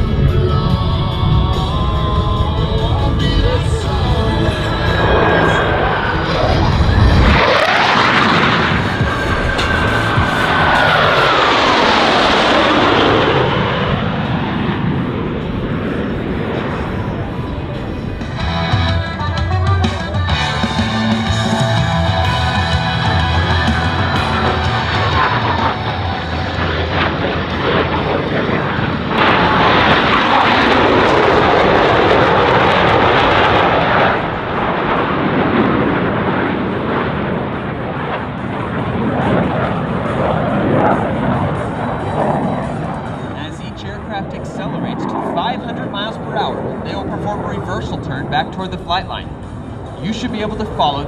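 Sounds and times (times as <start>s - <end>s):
jet flying past with roar: 0.0s - 51.0s.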